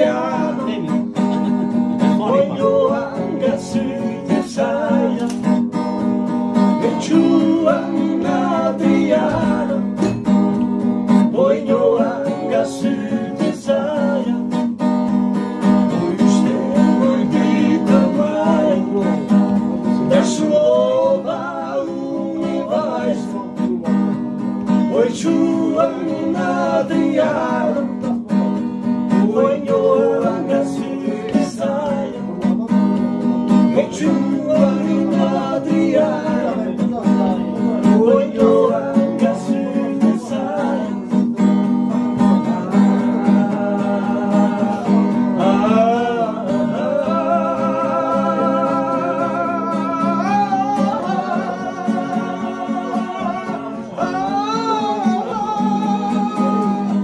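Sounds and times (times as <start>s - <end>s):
acoustic guitar strumming: 0.0s - 57.0s
man singing: 0.0s - 57.0s.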